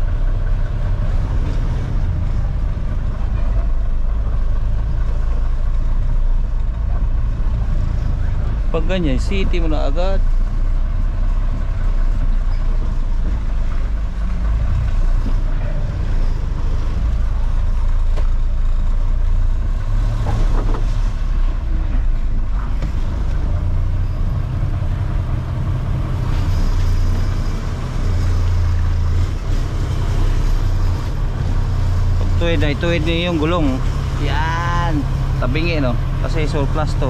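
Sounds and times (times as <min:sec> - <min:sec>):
truck diesel engine rumbling: 0:00.0 - 0:37.0.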